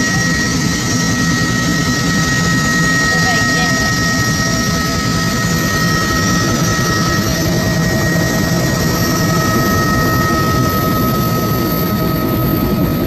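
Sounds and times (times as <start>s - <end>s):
helicopter engine and rotor rumble: 0.0s - 13.0s
high-pitched whine: 0.0s - 13.0s.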